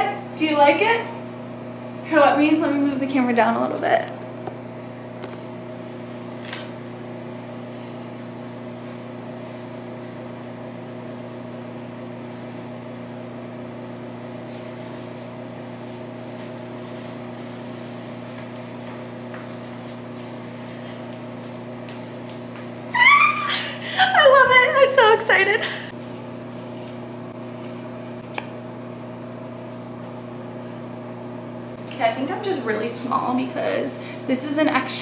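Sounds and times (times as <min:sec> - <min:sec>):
ventilation hum: 0:00.0 - 0:35.0.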